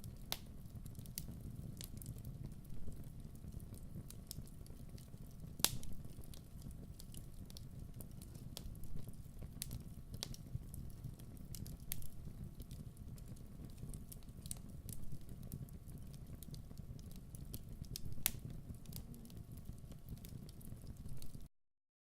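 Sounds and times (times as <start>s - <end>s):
wood fire crackling: 0.0s - 21.5s.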